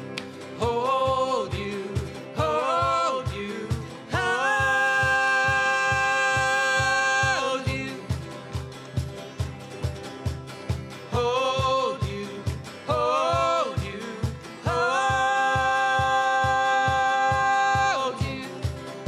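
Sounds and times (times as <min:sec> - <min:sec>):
acoustic guitars: 0:00.0 - 0:19.0
cajon beat: 0:00.0 - 0:19.0
person singing: 0:00.5 - 0:08.4, 0:11.1 - 0:19.0.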